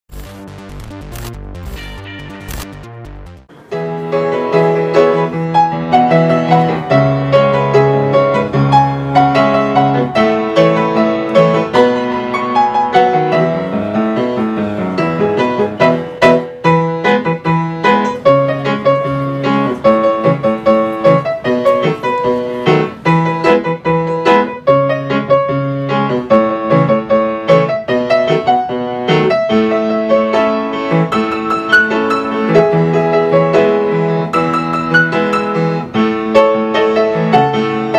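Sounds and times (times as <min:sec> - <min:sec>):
piano music: 0:00.1 - 0:37.9.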